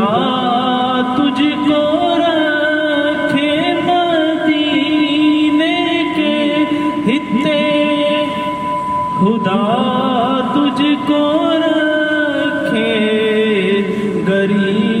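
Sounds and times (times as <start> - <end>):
person chanting unaccompanied: 0.0 - 15.0.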